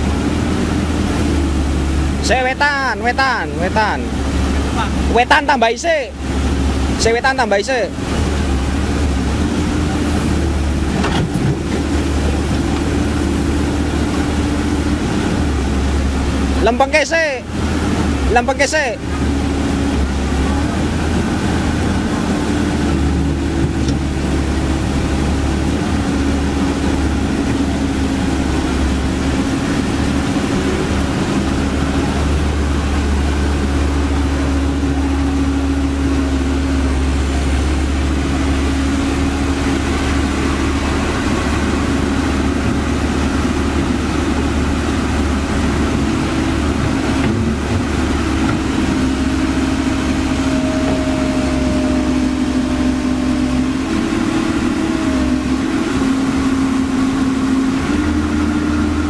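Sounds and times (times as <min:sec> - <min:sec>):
excavator diesel engine: 0:00.0 - 0:59.0
hydraulic drone: 0:00.0 - 0:59.0
water rushing over weir: 0:00.0 - 0:59.0.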